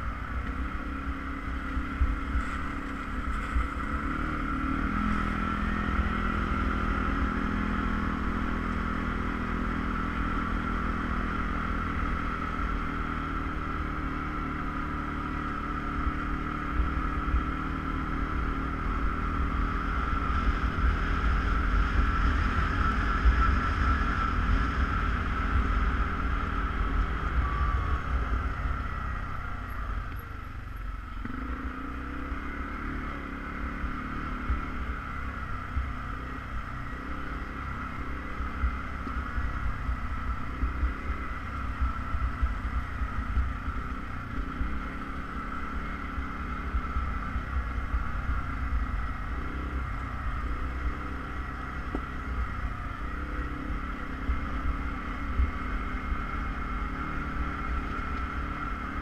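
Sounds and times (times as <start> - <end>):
atv engine droning: 0.0 - 59.0.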